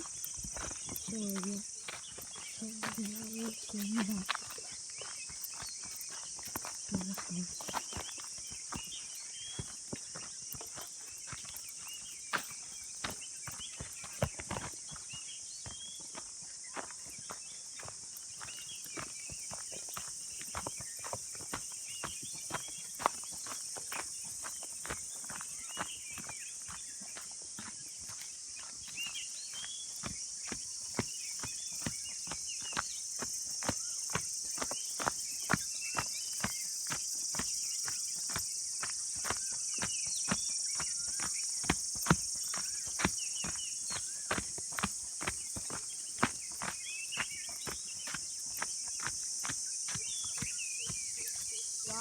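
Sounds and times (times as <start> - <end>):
bird chirping calls: 0.0 - 52.0
footsteps on forest path: 0.0 - 52.0
high-pitched insect chorus: 0.0 - 52.0.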